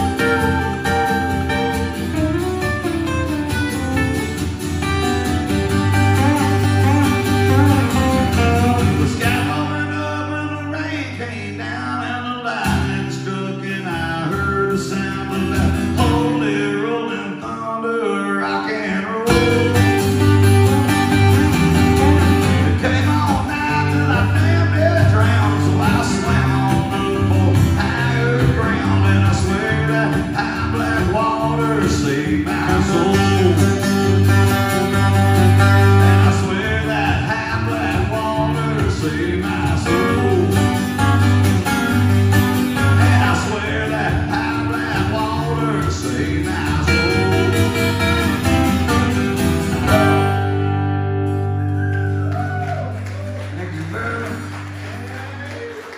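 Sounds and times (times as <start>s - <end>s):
acoustic guitars strummed and picked: 0.0s - 55.9s
man singing: 6.1s - 50.5s, 53.5s - 55.9s.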